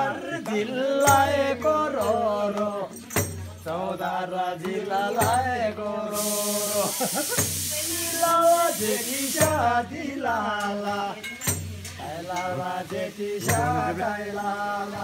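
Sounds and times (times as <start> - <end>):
men singing folk song: 0.0 - 15.0.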